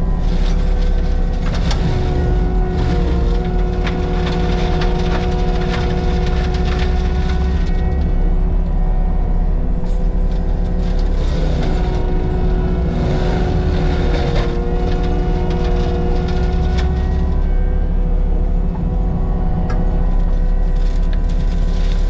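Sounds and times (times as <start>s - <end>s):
constant whine: 0.0s - 22.0s
diesel engine running: 0.0s - 22.0s.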